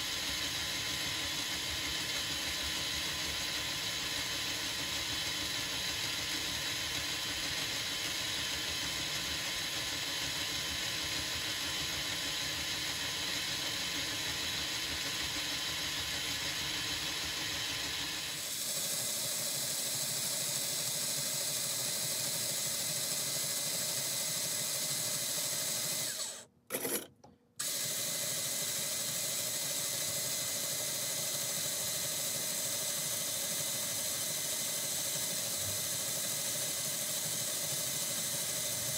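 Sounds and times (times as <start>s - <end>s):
cordless drill running: 0.0s - 38.9s.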